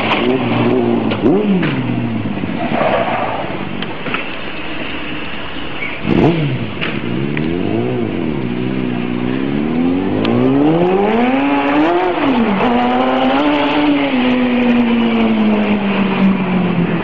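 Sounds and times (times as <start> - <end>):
engine revving: 0.0 - 4.2, 6.0 - 17.0.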